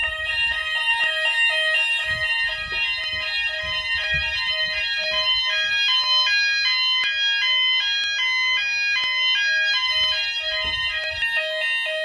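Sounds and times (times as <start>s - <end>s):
fire alarm sounders: 0.0s - 12.0s.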